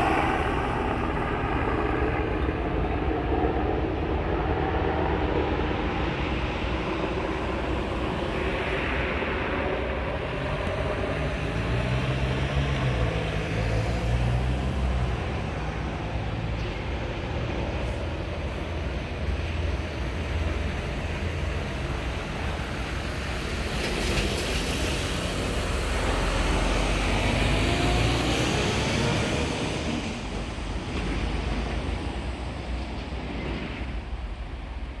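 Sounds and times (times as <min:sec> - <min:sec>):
helicopter rotor and turbine drone: 0:00.0 - 0:35.0.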